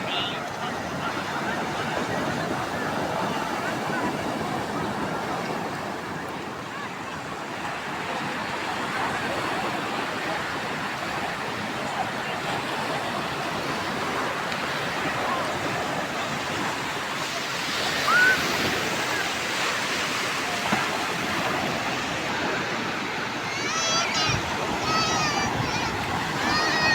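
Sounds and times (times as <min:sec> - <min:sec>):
rough sea surf breaking: 0:00.0 - 0:26.9.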